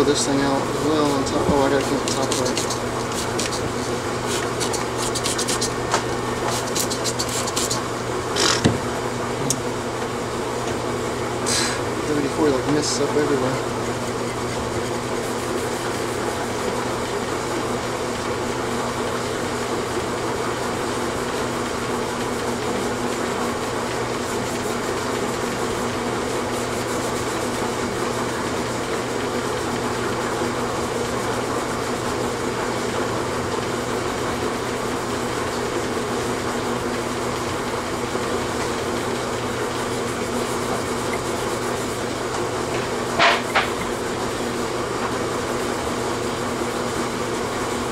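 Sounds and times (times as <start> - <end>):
machine humming: 0.0 - 47.9.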